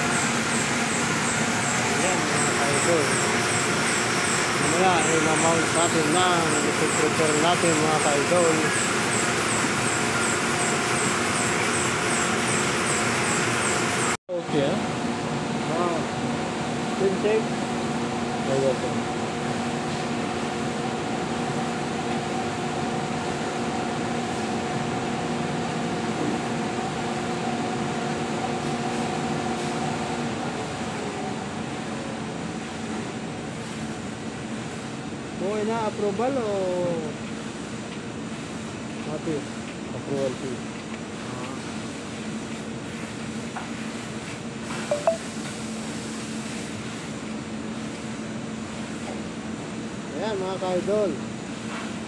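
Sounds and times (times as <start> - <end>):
factory machinery and ventilation hum: 0.0 - 52.0.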